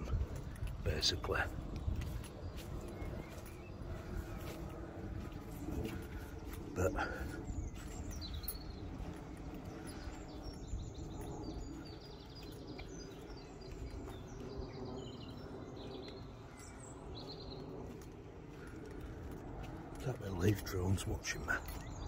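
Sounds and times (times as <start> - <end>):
low outdoor background noise: 0.0 - 22.0
small birds chirping and singing: 0.0 - 22.0.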